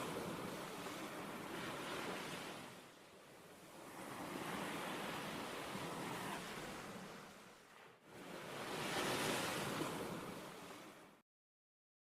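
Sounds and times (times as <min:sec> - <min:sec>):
sea waves washing on shore: 0:00.0 - 0:11.2.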